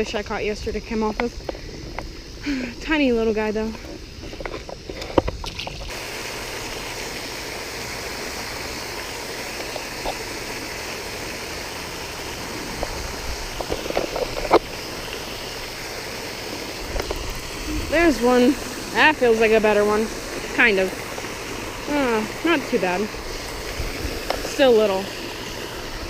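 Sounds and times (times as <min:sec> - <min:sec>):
fountain water splashing: 0:00.0 - 0:26.0.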